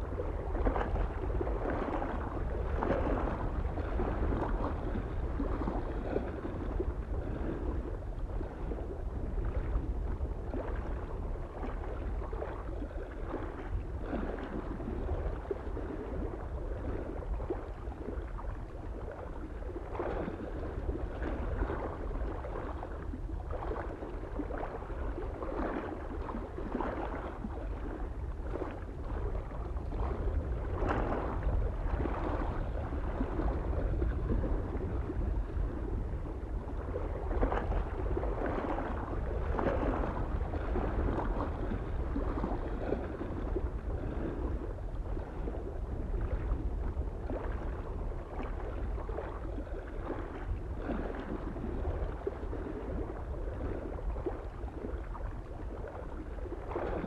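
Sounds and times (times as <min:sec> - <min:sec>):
small waves lapping on shore: 0:00.0 - 0:57.0
wind rumble on microphone: 0:00.0 - 0:57.0.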